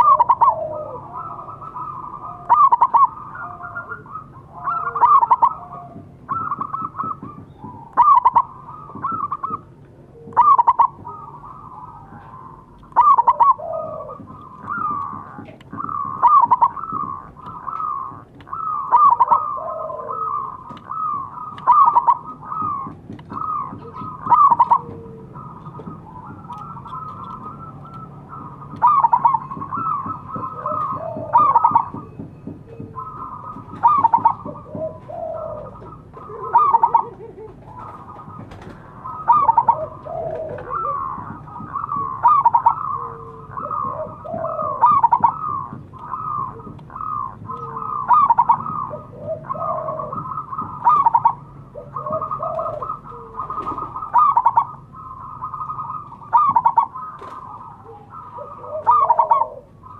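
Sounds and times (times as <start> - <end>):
doves cooing: 0.0 - 59.9.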